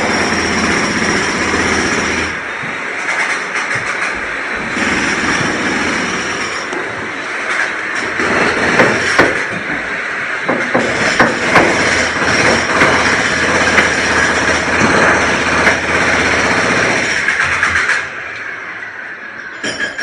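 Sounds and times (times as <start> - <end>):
heavy machinery running: 0.0 - 20.0.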